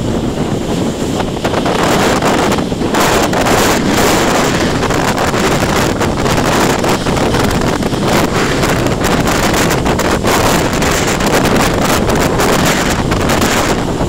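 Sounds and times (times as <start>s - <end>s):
waves breaking against seawall: 0.0s - 14.0s
wind buffeting microphone: 0.0s - 14.0s.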